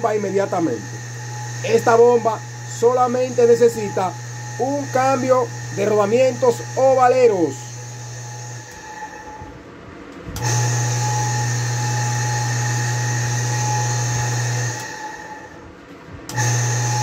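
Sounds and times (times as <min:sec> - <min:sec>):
electric water pump humming: 0:00.0 - 0:17.0.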